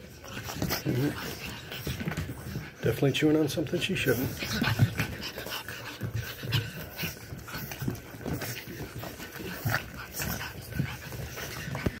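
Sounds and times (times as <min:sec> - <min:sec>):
puppies making low vocal noises: 0:00.0 - 0:12.0.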